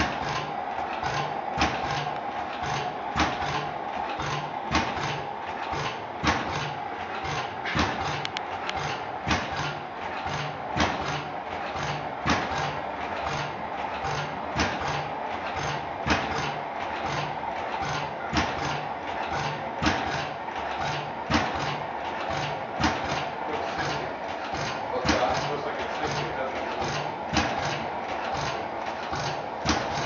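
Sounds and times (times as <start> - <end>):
engine-compressor running: 0.0 - 30.0
sharp mechanical knock: 0.0 - 30.0.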